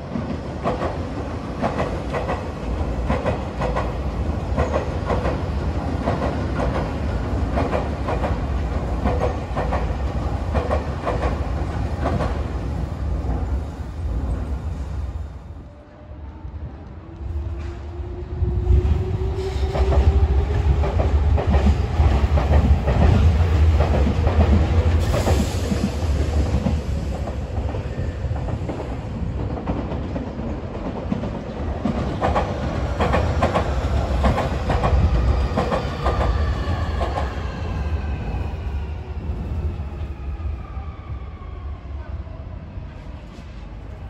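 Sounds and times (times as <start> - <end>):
train rumble: 0.0 - 44.0.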